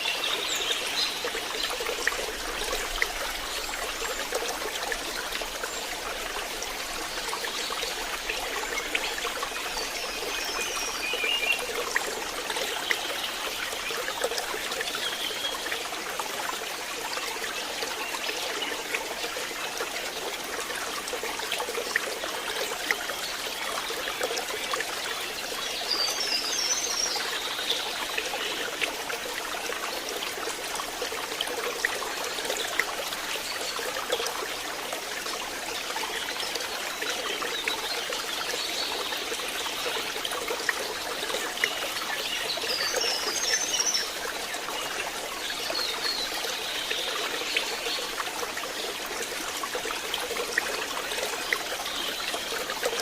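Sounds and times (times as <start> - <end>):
stream trickling over stones: 0.0 - 53.0.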